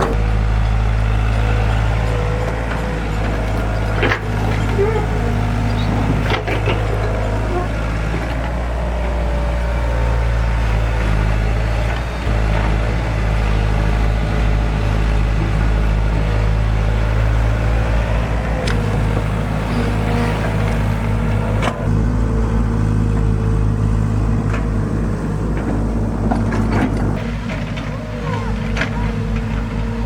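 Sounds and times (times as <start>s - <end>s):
large engine running: 0.0s - 30.0s.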